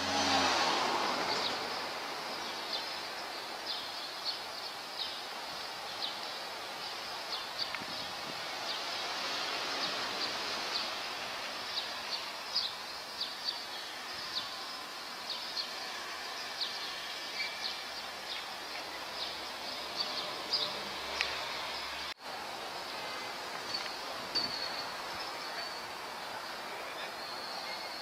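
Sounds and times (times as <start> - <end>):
city street noise: 0.0 - 28.0.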